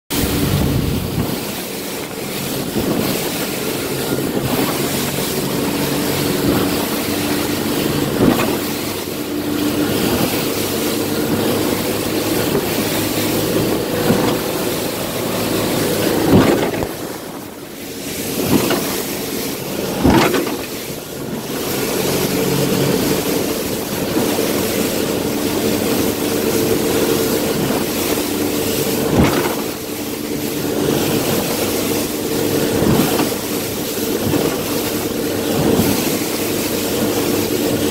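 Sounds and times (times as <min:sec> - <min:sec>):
hull slamming into waves: 0:00.1 - 0:37.9
motorboat engine running: 0:00.1 - 0:37.9
wind and spray rushing: 0:00.1 - 0:37.9.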